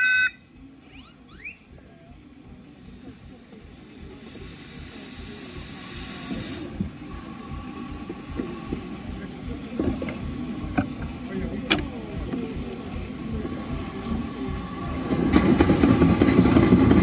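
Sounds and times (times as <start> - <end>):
steam hissing: 1.1 - 17.0
engine running unevenly: 1.8 - 17.0.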